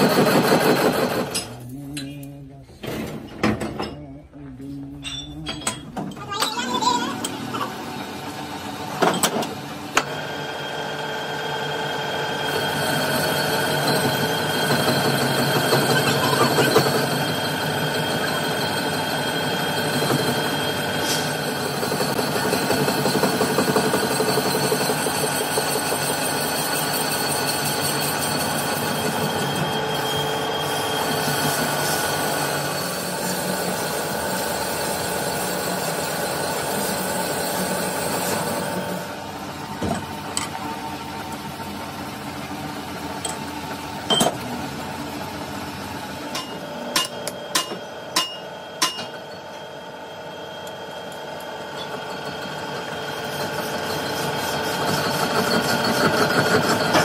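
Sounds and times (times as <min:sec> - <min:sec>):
metalworking machinery running: 0:00.0 - 0:04.0, 0:05.0 - 0:57.0.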